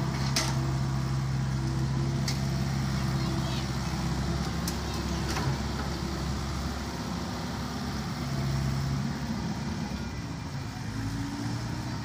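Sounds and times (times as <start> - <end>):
excavator diesel engine working: 0.0 - 12.0.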